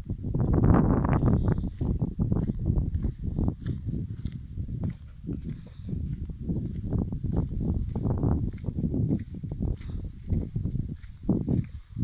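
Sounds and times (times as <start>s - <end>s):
footsteps on dirt path: 0.0s - 12.0s
wind rumbling on microphone: 0.0s - 12.0s.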